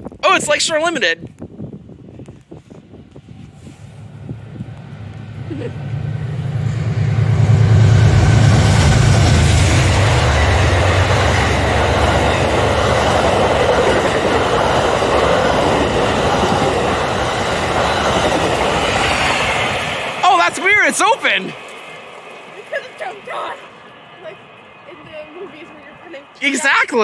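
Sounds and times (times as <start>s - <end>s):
locomotive hum: 1.8s - 27.0s
train wheels clattering: 4.0s - 26.4s.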